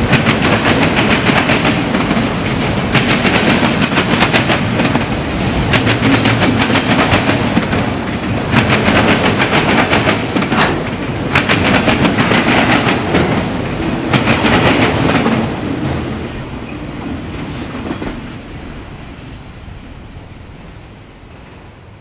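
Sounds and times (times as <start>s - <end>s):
wheels clicking over rail joints: 0.0s - 19.2s.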